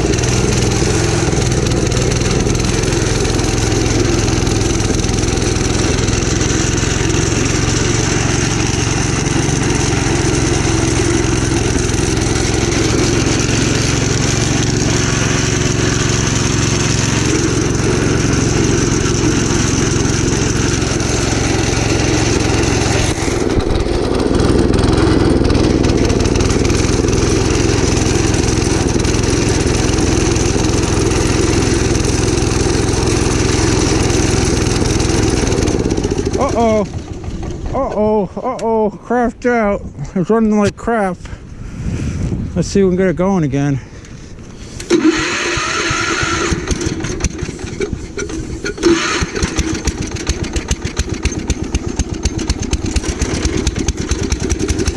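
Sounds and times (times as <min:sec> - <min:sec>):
walk-behind tractor engine running: 0:00.0 - 0:39.7, 0:44.0 - 0:54.9.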